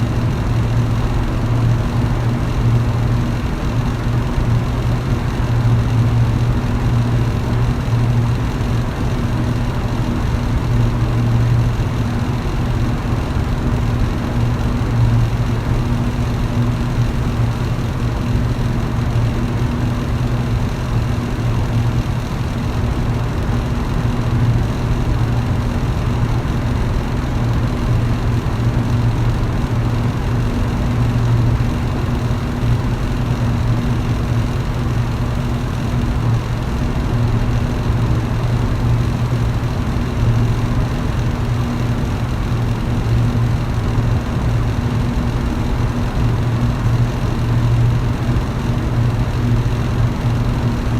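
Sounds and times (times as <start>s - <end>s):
electric fan running: 0.0s - 50.9s.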